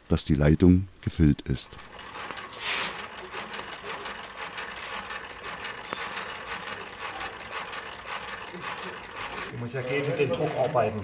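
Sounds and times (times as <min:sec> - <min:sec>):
hand crank fast mechanical clicking: 0:01.8 - 0:11.0.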